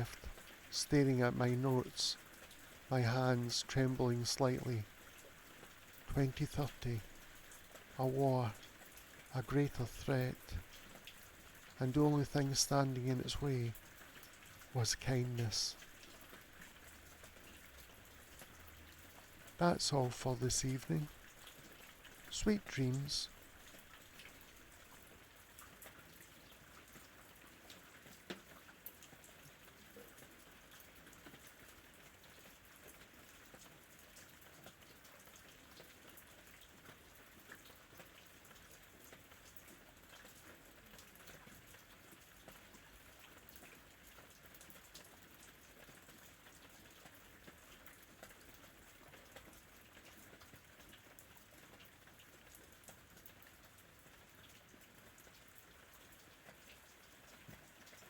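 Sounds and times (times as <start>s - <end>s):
faint steady rain: 0.0s - 58.0s
raindrop ticks and patter: 0.0s - 58.0s.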